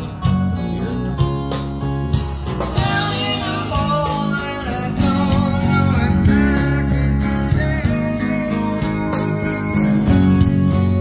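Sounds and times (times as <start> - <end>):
guitar music over speakers: 0.0 - 11.0.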